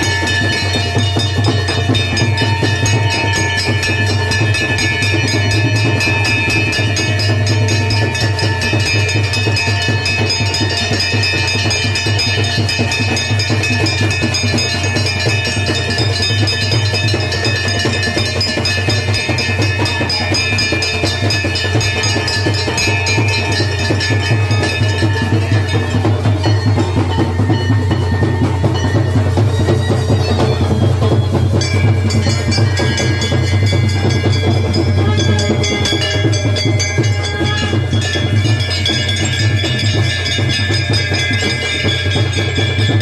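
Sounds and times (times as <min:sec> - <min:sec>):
fast continuous drumming: 0:00.0 - 0:43.0
long held high notes: 0:00.0 - 0:43.0.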